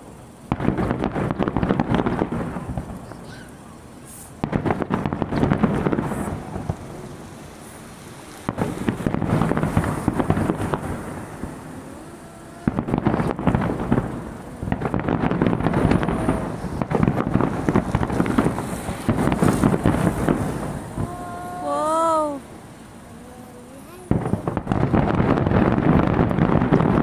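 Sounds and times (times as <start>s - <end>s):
fireworks bursting and crackling: 0.0s - 27.0s.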